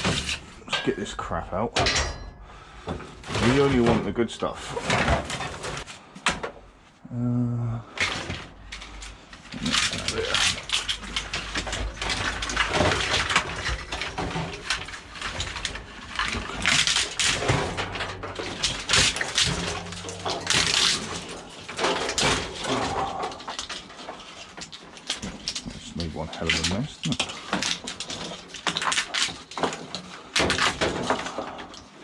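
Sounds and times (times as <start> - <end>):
metal knocks and clatters: 0.0 - 6.6, 8.0 - 32.0
rummaging through scrap metal: 0.0 - 6.7, 7.9 - 32.0.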